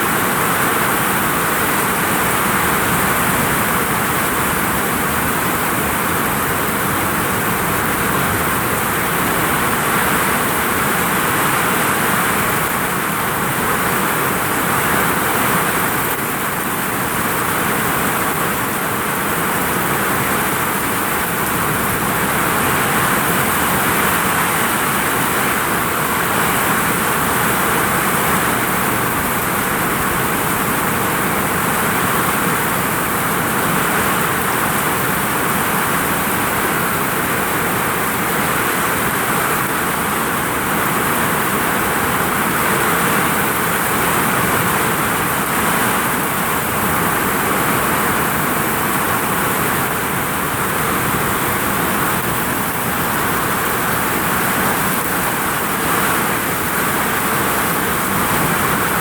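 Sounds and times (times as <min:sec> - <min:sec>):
heavy rain drumming on roof: 0:00.0 - 0:59.0.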